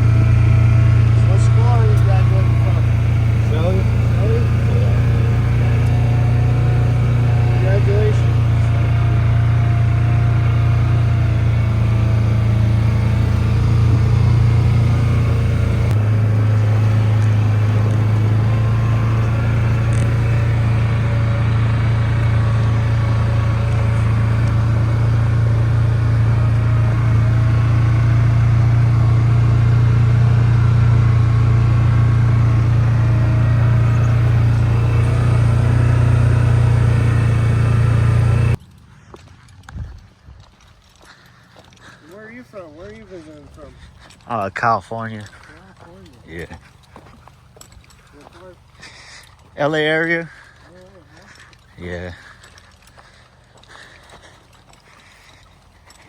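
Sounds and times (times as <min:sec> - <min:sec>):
car engine and road noise: 0:00.0 - 0:38.9, 0:42.0 - 0:56.0.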